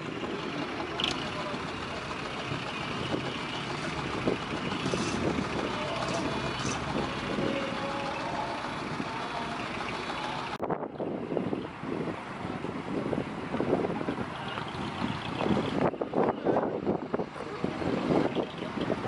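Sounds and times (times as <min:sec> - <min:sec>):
truck engines rumbling: 0:00.0 - 0:19.0.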